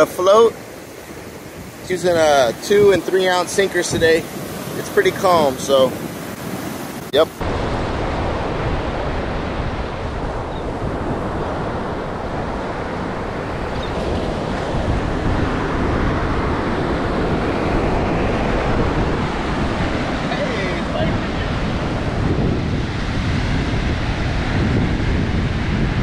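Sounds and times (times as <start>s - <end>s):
surf breaking on beach: 0.0s - 26.0s
wind buffeting microphone: 0.8s - 26.0s.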